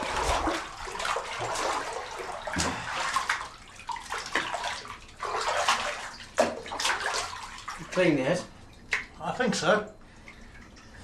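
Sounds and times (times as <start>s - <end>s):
bathwater sloshing and splashing: 0.0s - 11.0s.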